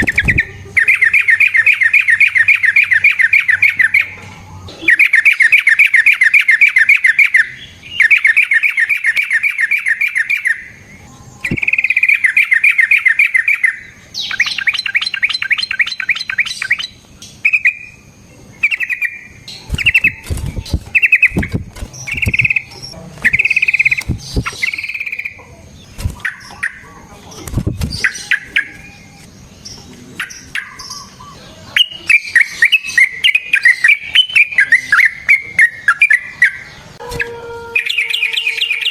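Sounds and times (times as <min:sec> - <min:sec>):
bulbul singing trilled phrases: 0:00.0 - 0:37.0, 0:37.8 - 0:38.9.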